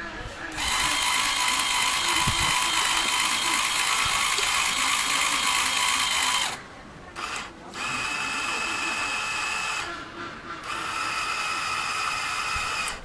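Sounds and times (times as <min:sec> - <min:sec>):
toy motors and gears whirring: 0:00.0 - 0:06.6, 0:07.2 - 0:13.0.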